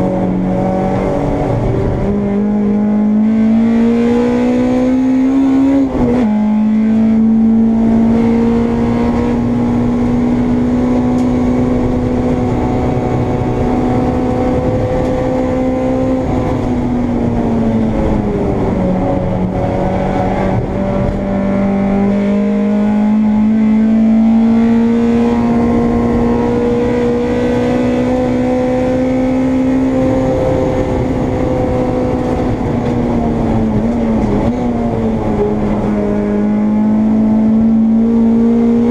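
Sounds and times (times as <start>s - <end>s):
race car engine under load: 0.0s - 38.9s.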